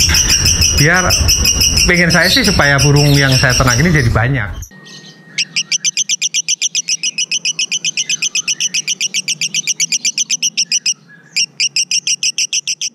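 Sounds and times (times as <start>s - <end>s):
lovebird chattering song: 0.0s - 12.9s.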